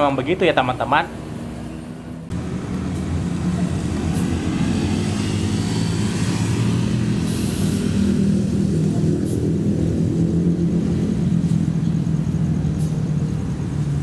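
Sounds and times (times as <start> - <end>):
diesel locomotive engine running: 2.3 - 14.0.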